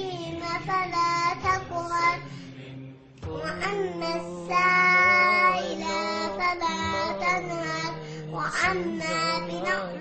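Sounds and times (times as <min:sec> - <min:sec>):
girl chanting melodically: 0:00.0 - 0:02.3, 0:03.2 - 0:10.0.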